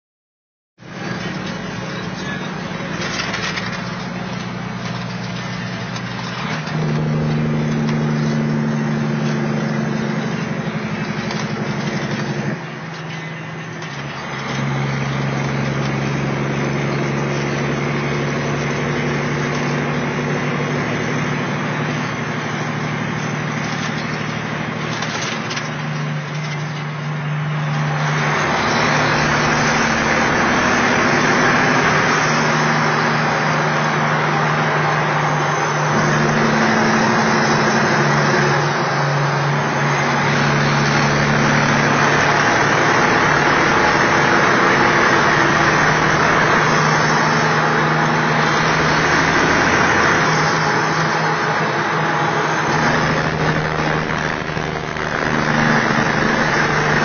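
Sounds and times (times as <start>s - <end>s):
road noise: 0.8s - 57.0s
truck diesel engine running: 0.8s - 57.0s.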